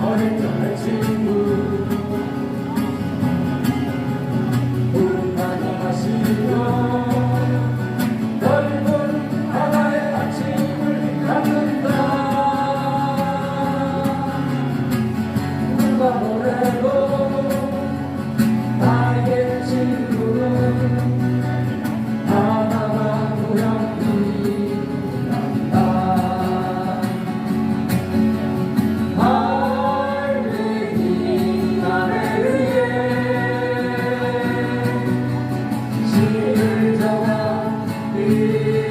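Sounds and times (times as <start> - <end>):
acoustic guitar: 0.0 - 38.9.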